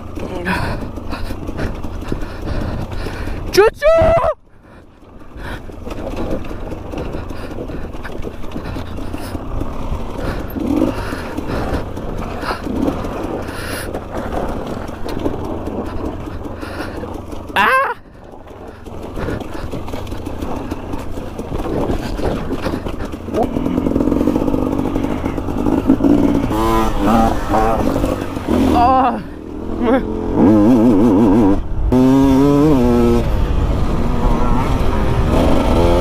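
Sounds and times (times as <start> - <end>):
motorcycle engine: 0.0 - 36.0
rough-ground rumble: 0.0 - 36.0.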